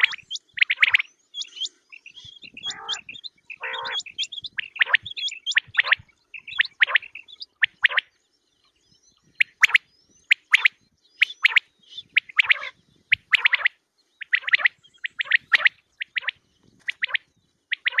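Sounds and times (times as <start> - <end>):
quail chirping calls: 0.0 - 18.0.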